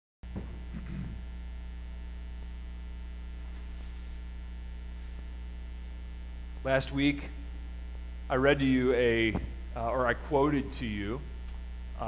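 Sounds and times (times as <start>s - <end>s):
electrical mains hum: 0.2s - 12.0s.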